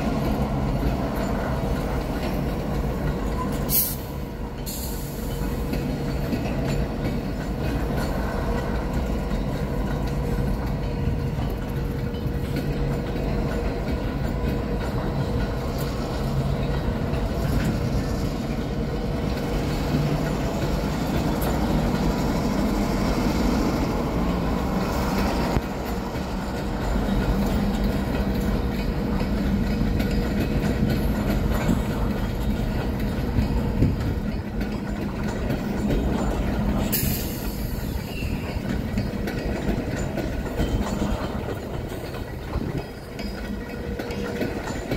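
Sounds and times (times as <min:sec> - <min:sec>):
freight train rumble and hum: 0:00.0 - 0:44.9
wheels clicking over rail joints: 0:00.0 - 0:44.9.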